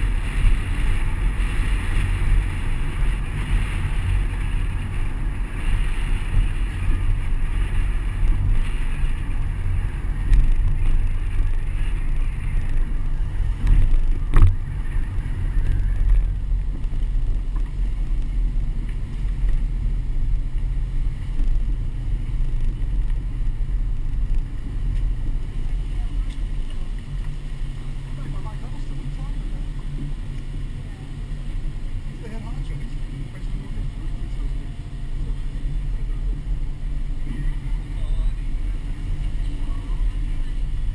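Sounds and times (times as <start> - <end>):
car engine and tyres rumbling: 0.0 - 40.9
wind noise on microphone: 0.0 - 40.9.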